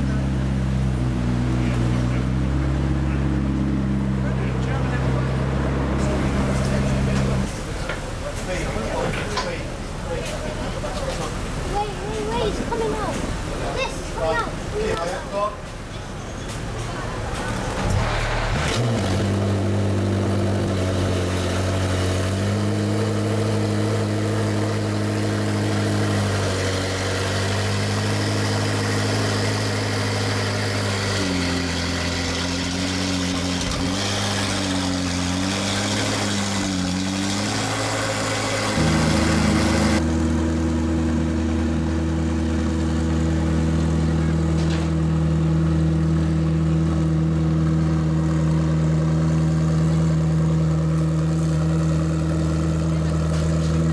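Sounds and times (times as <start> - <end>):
car engine starting and idling: 0.0 - 53.9.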